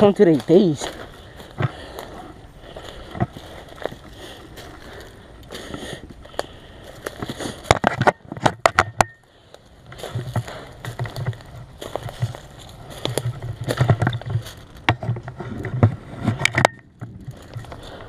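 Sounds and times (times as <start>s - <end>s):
clothing and gear rustling: 0.0s - 7.7s, 9.6s - 16.4s
footsteps: 0.0s - 8.5s, 9.2s - 16.4s.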